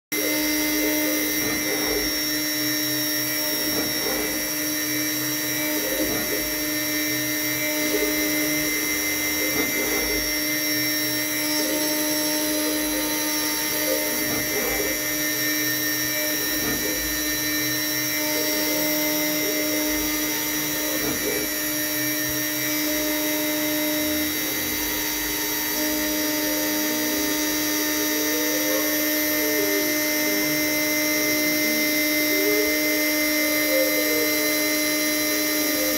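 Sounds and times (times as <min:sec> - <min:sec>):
cnc router spindle whine: 0:00.1 - 0:35.9.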